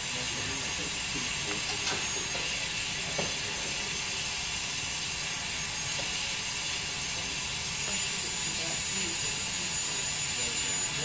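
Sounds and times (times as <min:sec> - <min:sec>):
dental suction hissing: 0:00.3 - 0:11.0.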